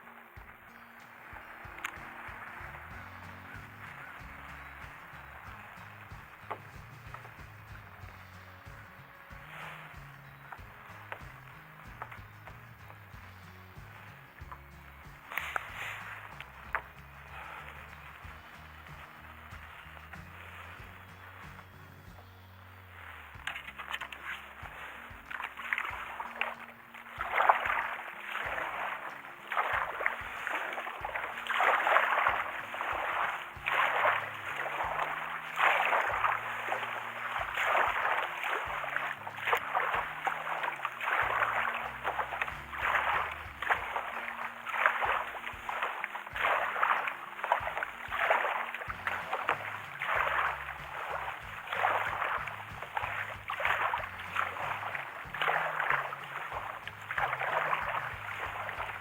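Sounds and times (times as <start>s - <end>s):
paddle splashing water: 0.0s - 59.0s.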